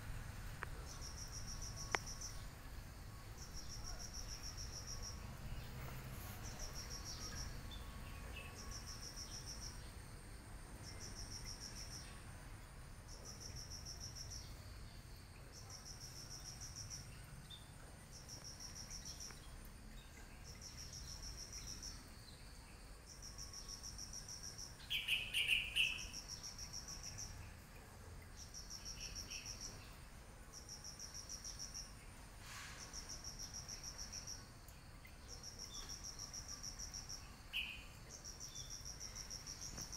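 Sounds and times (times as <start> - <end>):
insect chirping in trills: 0.0 - 39.9.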